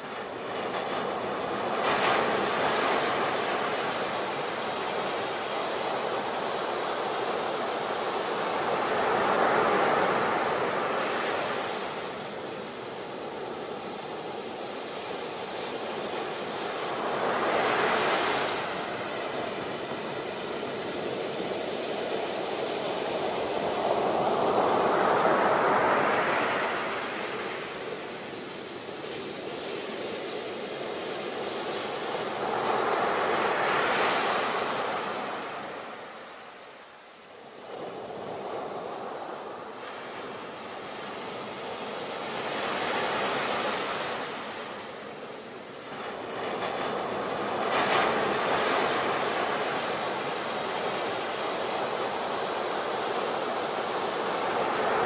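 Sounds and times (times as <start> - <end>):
ocean waves crashing on beach: 0.0 - 55.0.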